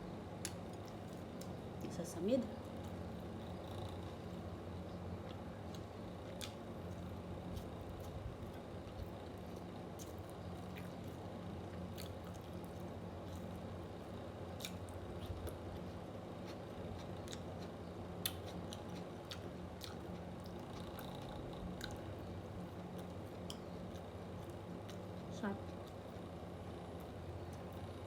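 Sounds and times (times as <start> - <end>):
electric fan humming: 0.0 - 28.0
chewing and mouth sounds: 0.4 - 2.0, 2.6 - 27.8.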